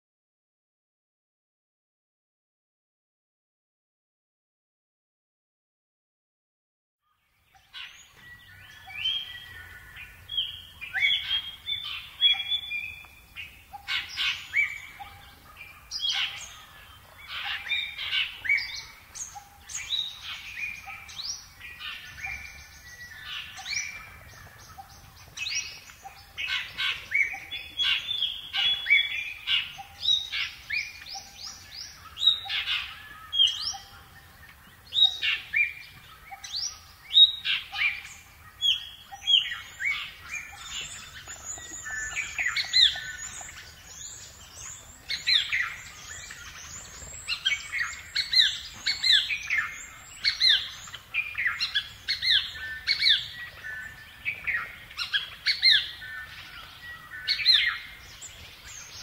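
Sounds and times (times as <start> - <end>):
birds singing and chirping: 7.0 - 59.0.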